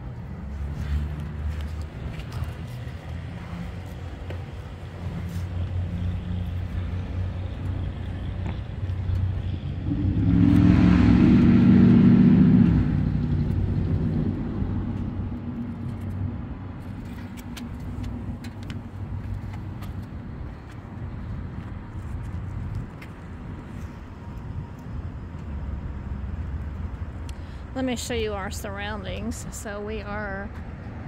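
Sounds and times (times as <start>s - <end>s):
car engine hum: 0.0s - 27.9s.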